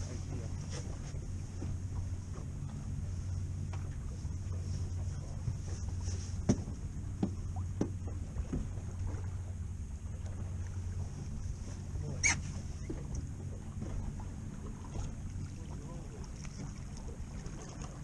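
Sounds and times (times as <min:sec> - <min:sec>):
boat engine low rumble: 0:00.0 - 0:18.0.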